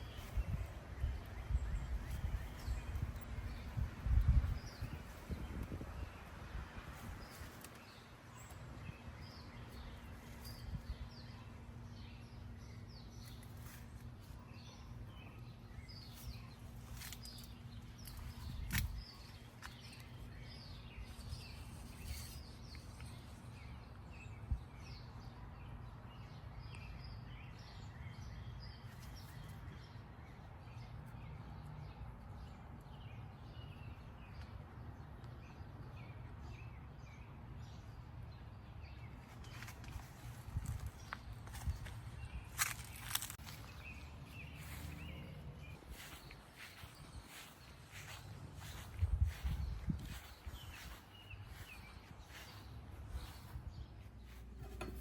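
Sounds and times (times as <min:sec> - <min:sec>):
faint birds chirping: 0:00.0 - 0:55.0.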